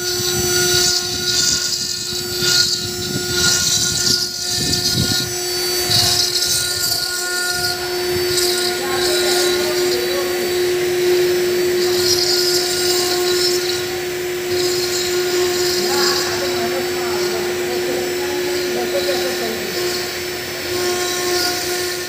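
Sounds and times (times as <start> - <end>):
stone cutting router whine: 0.0 - 22.0.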